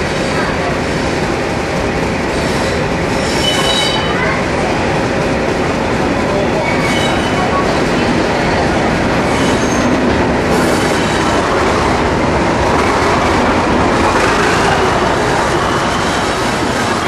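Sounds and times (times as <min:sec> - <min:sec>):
diesel locomotive engines: 0:00.0 - 0:17.0
wheel and rail noise: 0:00.0 - 0:17.0.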